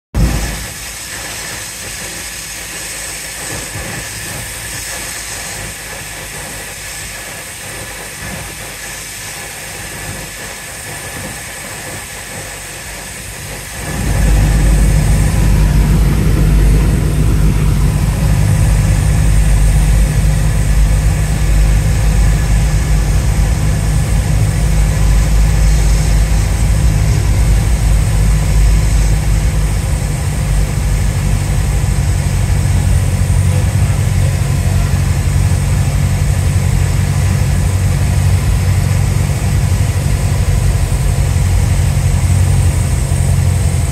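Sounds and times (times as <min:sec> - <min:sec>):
aircraft engine and propeller: 0:00.1 - 0:43.9.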